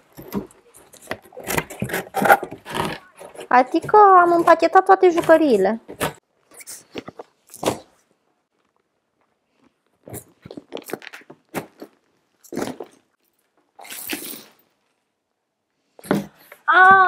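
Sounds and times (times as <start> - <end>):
crinkling rustles: 0.0 - 15.1.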